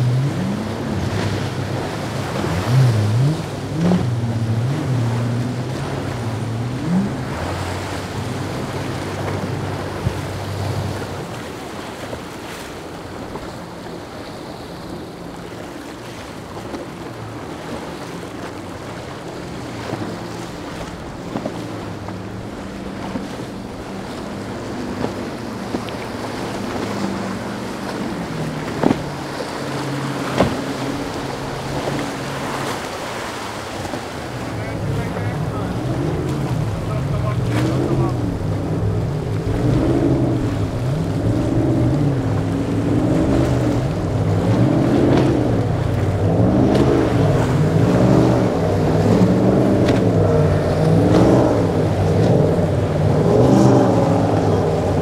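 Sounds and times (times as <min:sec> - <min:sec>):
powerboat engines running hard: 0:00.0 - 0:55.0.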